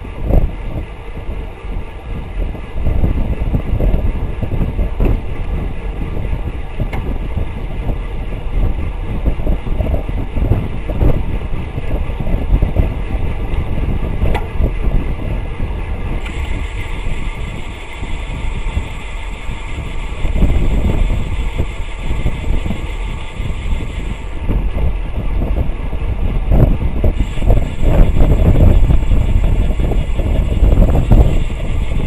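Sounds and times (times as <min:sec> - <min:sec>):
bicycle hub freewheeling buzz: 0:00.0 - 0:32.0
bike tyres rumbling on pavement: 0:00.0 - 0:32.0
wind buffeting microphone: 0:00.0 - 0:32.0.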